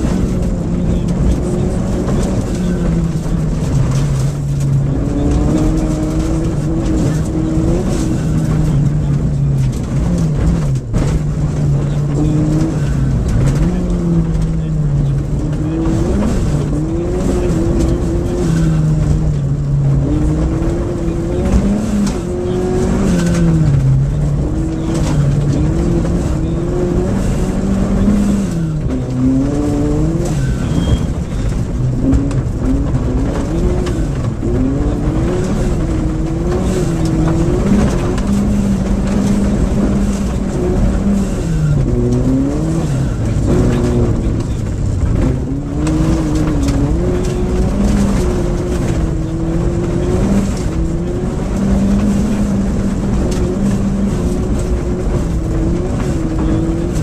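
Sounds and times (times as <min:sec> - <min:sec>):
rally car engine revving: 0:00.0 - 0:57.0
tyres on gravel: 0:00.0 - 0:57.0.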